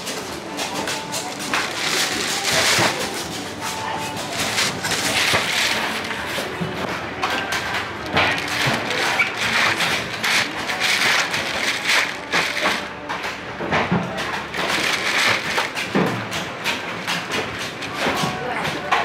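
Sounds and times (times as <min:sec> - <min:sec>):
market background din: 0:00.0 - 0:19.0.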